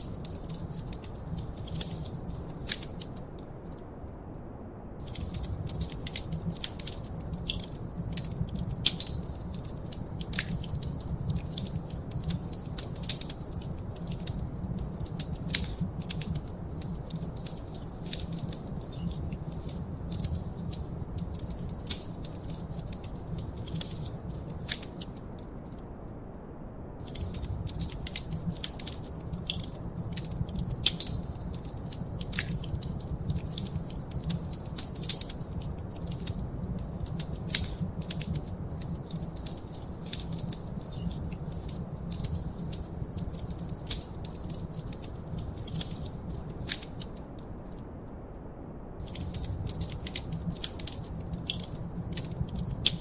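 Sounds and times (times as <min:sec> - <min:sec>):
wood fire crackling and popping: 0:00.0 - 0:03.8, 0:05.0 - 0:25.7, 0:27.0 - 0:47.9, 0:49.0 - 0:53.0.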